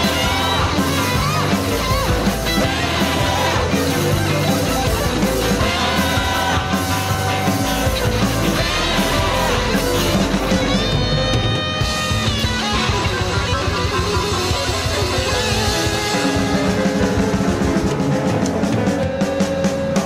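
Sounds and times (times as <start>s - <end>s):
rock music with guitar and drums: 0.0s - 20.0s.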